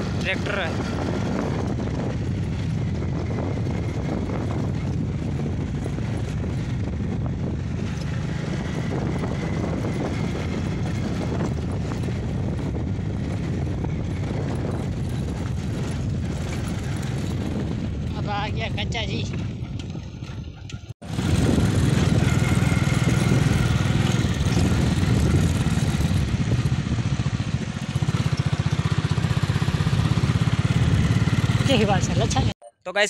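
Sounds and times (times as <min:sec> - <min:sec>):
road noise: 0:00.0 - 0:32.6
vehicle engine rumble: 0:00.0 - 0:32.6
wind buffeting microphone: 0:00.0 - 0:32.6.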